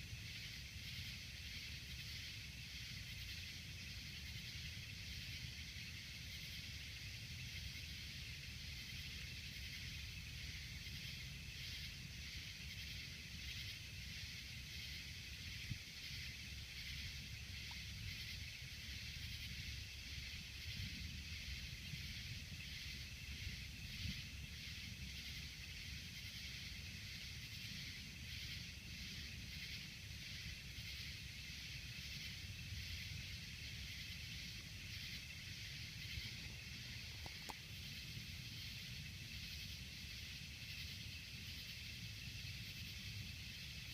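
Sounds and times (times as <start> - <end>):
high pulsing hiss: 0.0 - 43.9.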